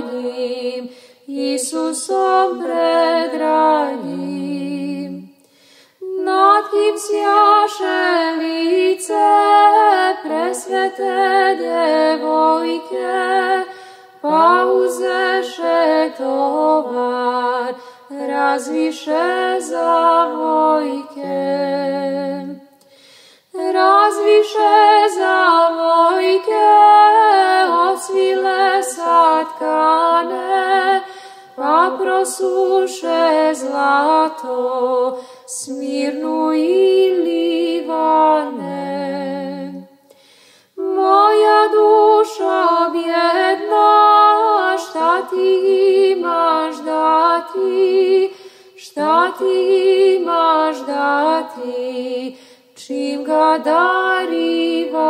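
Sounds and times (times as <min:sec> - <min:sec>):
women singing a hymn: 0:00.0 - 0:55.0.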